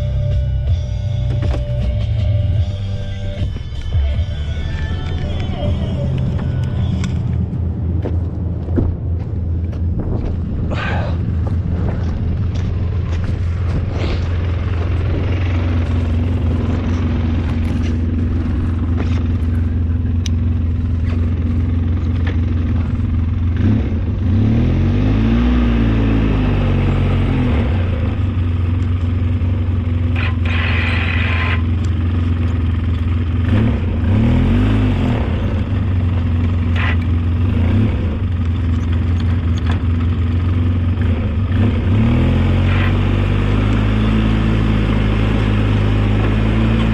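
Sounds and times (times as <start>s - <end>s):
old vehicle engine running: 0.0s - 46.9s.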